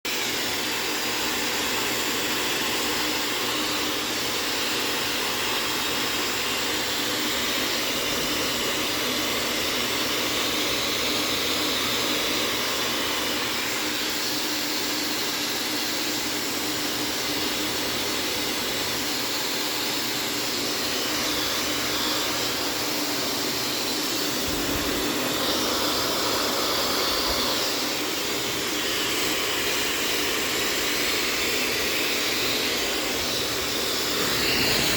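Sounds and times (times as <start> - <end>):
blow dryer air rushing: 0.1 - 34.9.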